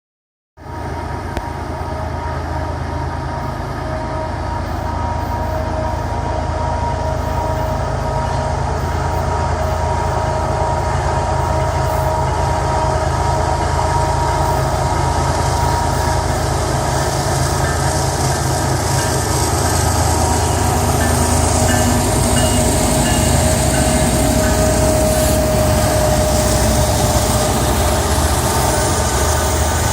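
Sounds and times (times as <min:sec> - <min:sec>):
locomotive engines rumbling: 0:00.6 - 0:29.9.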